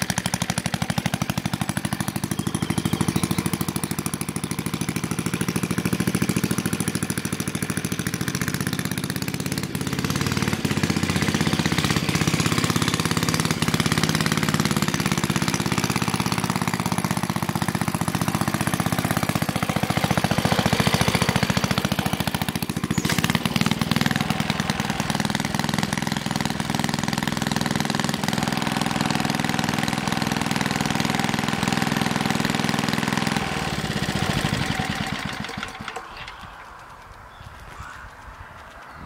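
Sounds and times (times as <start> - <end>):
garden tractor engine running: 0.0 - 39.0.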